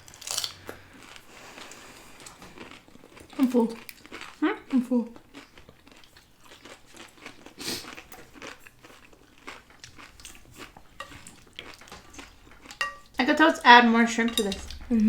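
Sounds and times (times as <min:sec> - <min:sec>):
crunchy chewing: 0:00.0 - 0:13.2.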